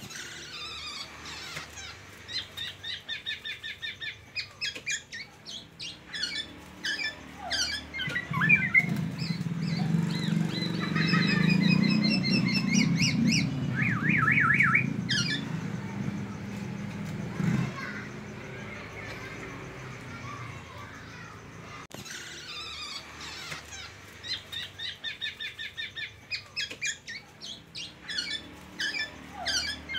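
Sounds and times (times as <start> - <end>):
songbird singing varied phrases: 0.1 - 29.9.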